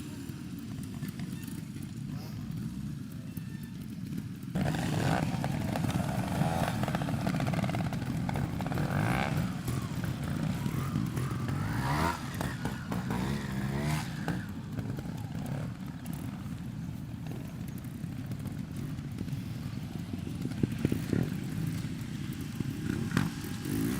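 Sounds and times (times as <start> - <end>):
motorcycle engine throttle blips: 0.2 - 23.9.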